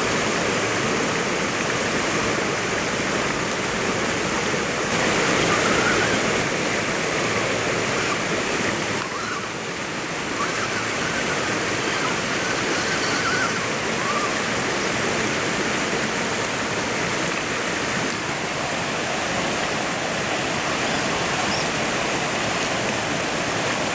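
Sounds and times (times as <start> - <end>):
river rushing over rocks: 0.0 - 23.9.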